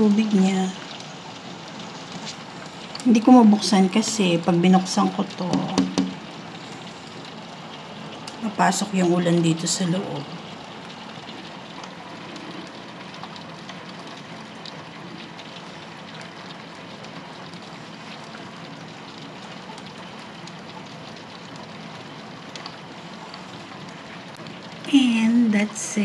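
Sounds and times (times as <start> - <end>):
heavy rain through glass door: 0.0 - 26.0.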